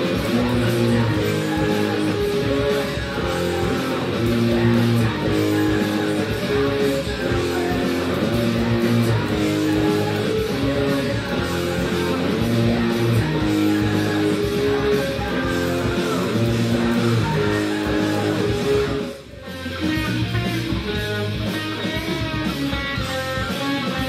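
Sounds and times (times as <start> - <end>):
electric guitar notes and chords: 0.0 - 24.0.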